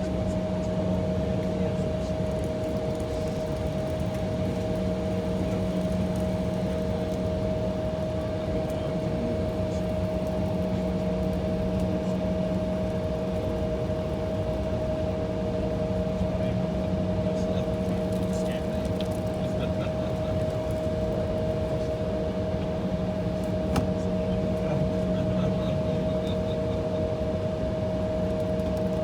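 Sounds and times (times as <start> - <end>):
cabin air-conditioning running: 0.0 - 29.0
jet engines idling: 0.0 - 29.0.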